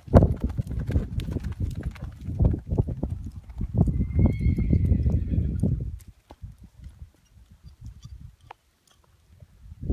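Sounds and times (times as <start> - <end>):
hoofbeats on soft dirt: 0.0 - 9.3.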